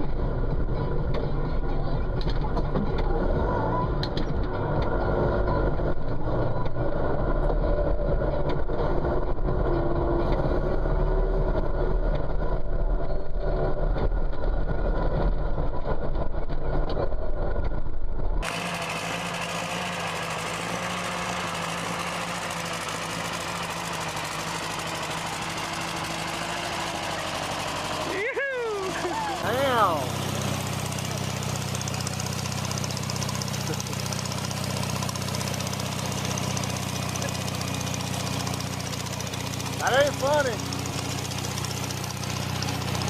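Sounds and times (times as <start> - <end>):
engine humming evenly: 0.0 - 43.0
farm machinery engine running: 0.0 - 43.0.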